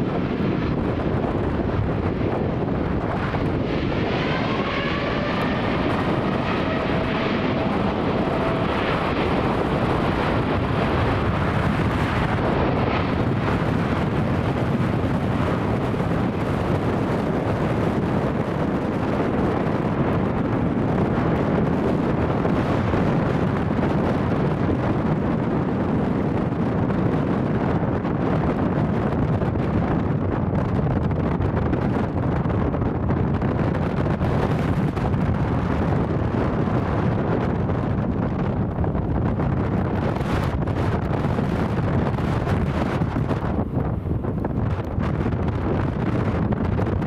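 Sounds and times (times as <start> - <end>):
jet engines of departing airliner: 0.0 - 47.0.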